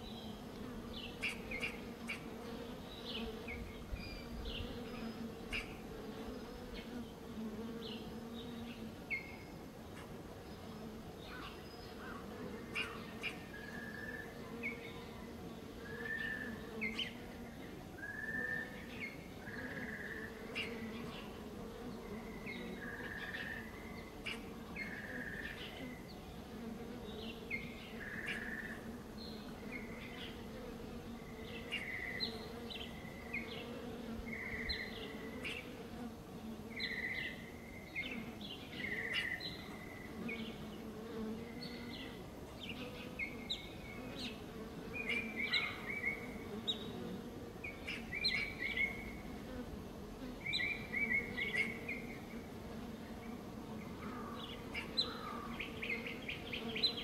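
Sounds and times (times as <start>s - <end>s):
bees buzzing: 0.0s - 11.2s, 12.2s - 57.0s
songbirds chirping: 0.0s - 57.0s.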